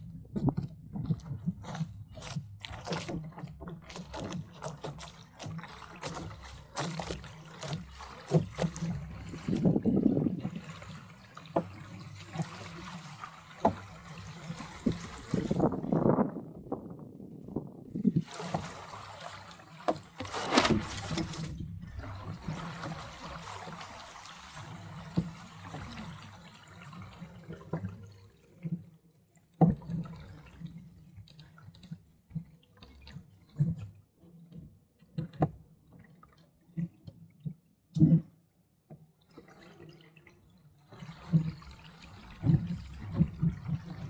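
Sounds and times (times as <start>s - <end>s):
small waves slapping hull: 0.0s - 44.0s
water gurgling along hull: 0.0s - 44.0s.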